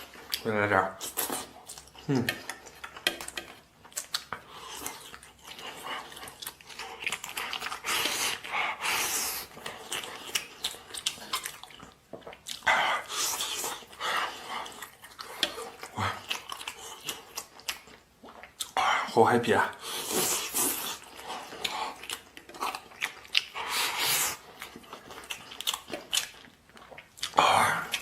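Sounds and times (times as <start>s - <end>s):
person chewing wetly: 0.0s - 28.0s.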